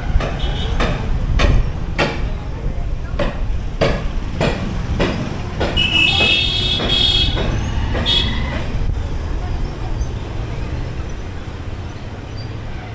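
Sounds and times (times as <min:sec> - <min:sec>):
motorcycle engine and road rumble: 0:00.0 - 0:12.9.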